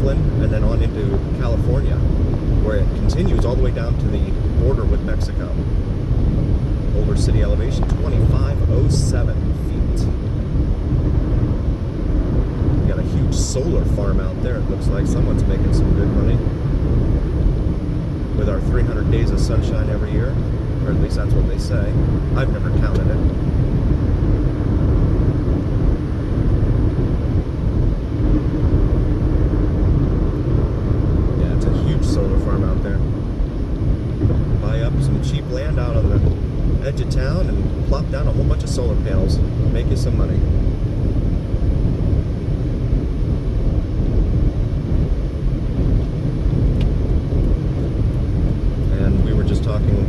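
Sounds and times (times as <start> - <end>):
car road noise at highway speed: 0.0 - 50.0.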